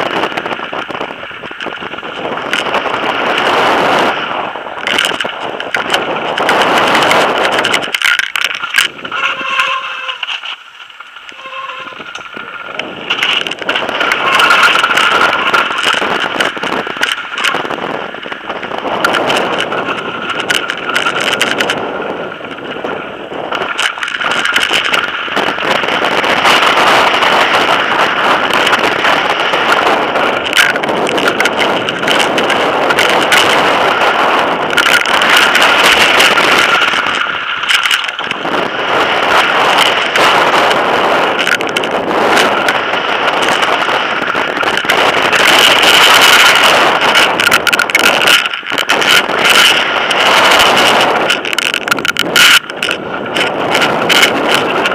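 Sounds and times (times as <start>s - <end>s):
bike rattling: 0.0s - 54.9s
bike tyres on gravel: 0.0s - 54.9s
wind buffeting microphone: 0.0s - 54.9s.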